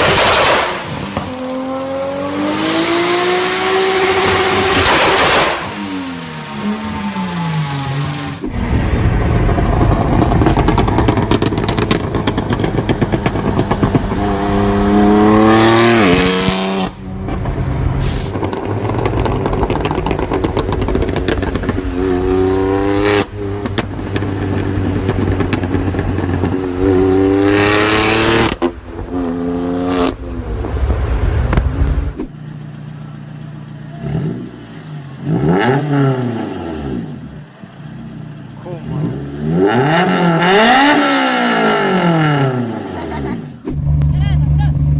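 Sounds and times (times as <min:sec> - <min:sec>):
car engines revving hard: 0:00.0 - 0:44.9
exhausts crackling and popping: 0:00.0 - 0:44.9.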